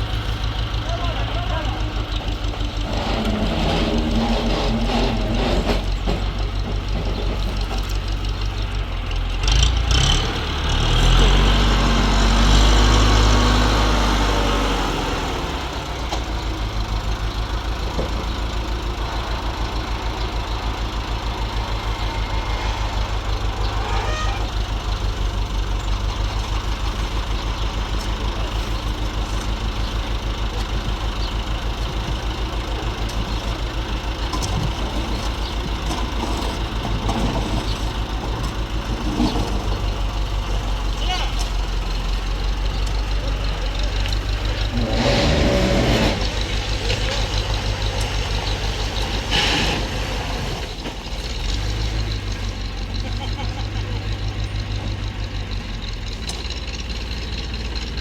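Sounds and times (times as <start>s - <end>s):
heavy engine running and revving: 0.0s - 58.0s.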